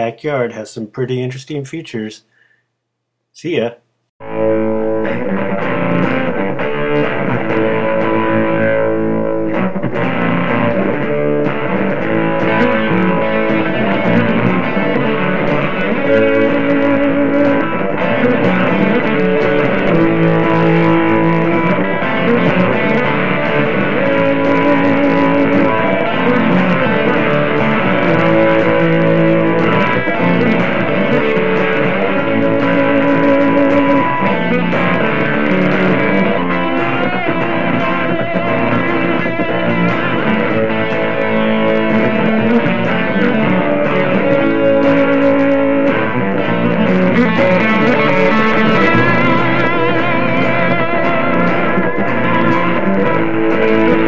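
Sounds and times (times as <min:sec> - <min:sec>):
rock music with electric guitar: 0:04.2 - 0:54.0.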